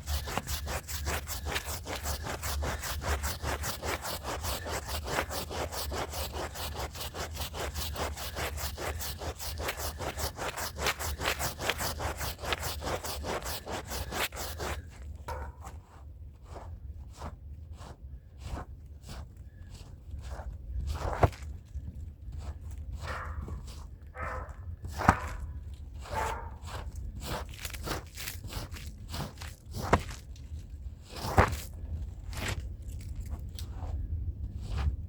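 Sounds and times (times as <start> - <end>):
brush scrubbing a rug: 0.0 - 35.0.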